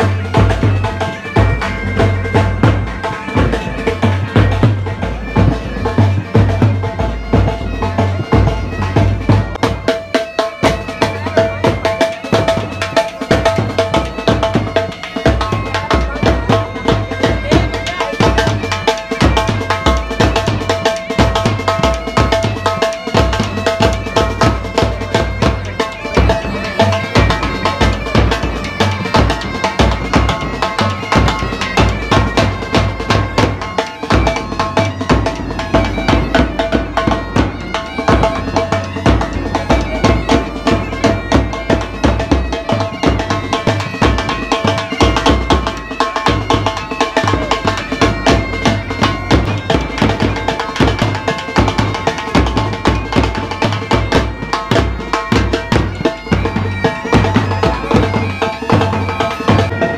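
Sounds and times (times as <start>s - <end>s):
bagpipes playing: 0.0s - 59.9s
drums beating: 0.0s - 59.9s.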